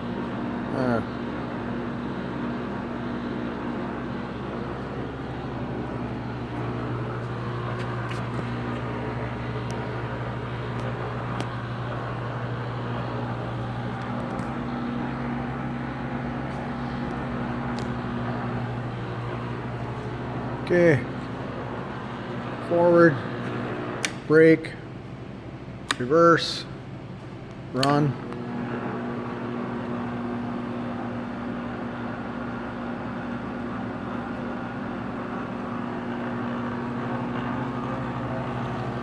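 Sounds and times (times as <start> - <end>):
lathe running hum: 0.0 - 39.0.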